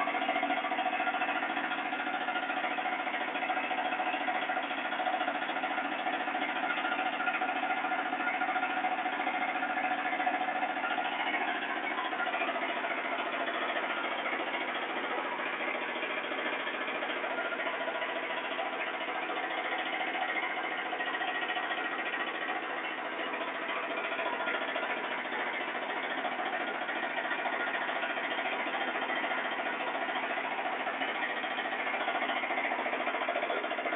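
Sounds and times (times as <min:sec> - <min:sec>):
diesel generator engine running: 0:00.0 - 0:33.9.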